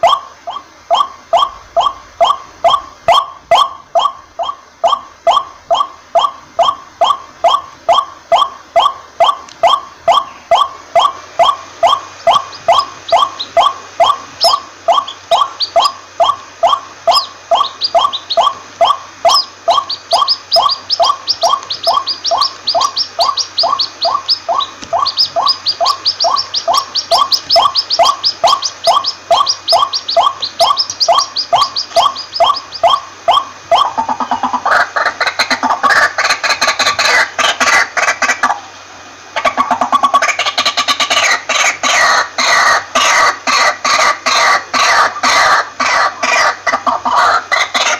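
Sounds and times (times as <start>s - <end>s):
waterhen calling: 0.0s - 47.9s.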